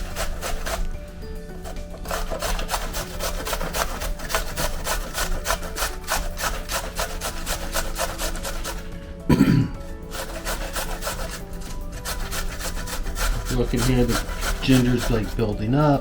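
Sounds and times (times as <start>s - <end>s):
ginger rasping on a grater: 0.0s - 9.2s, 9.8s - 16.0s.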